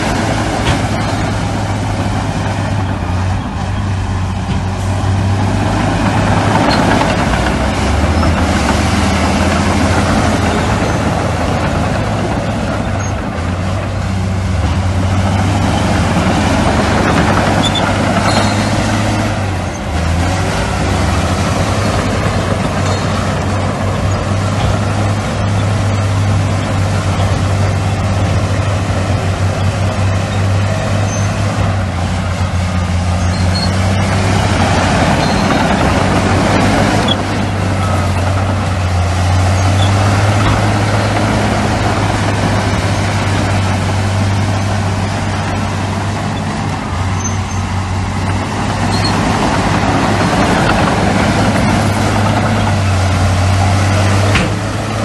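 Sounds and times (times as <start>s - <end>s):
heavy diesel machinery engines: 0.0s - 55.0s.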